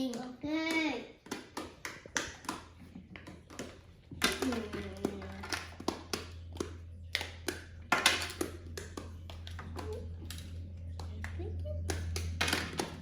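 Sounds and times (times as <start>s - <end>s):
plastic fidget toys tapping and popping: 0.0s - 13.0s.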